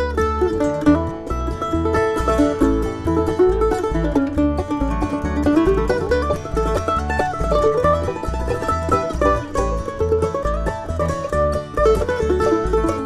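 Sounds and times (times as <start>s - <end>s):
bass: 0.0s - 13.0s
plucked strings: 0.0s - 13.0s
sliding lead melody: 0.0s - 13.0s.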